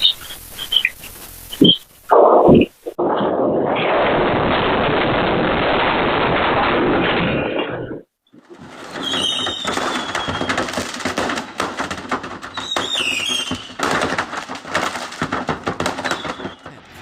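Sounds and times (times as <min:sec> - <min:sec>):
rapid crackling and popping: 0:00.0 - 0:17.0.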